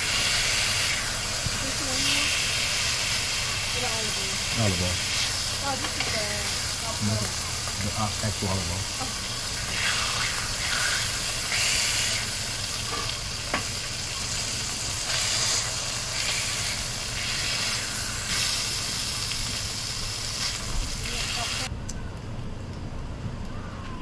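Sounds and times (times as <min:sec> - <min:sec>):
bacon sizzling on a griddle: 0:00.0 - 0:21.7.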